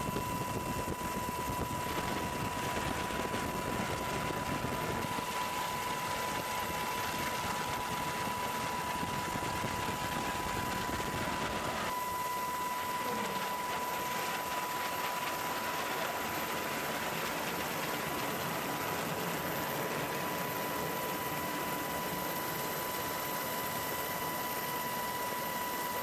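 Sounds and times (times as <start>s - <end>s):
aircraft engine and wind noise: 0.0s - 26.0s.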